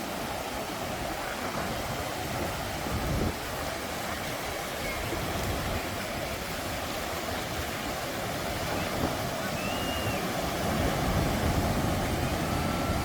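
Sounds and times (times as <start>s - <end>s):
ocean surf on sand: 0.0s - 13.0s.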